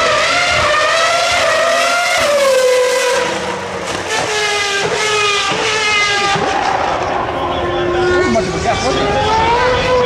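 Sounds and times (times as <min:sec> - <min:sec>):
racing car engine screaming: 0:00.0 - 0:10.0.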